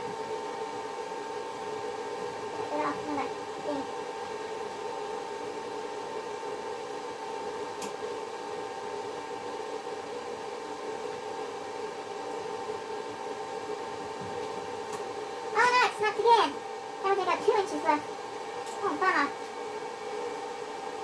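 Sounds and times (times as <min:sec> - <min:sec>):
machine hum with fan hiss: 0:00.0 - 0:21.0.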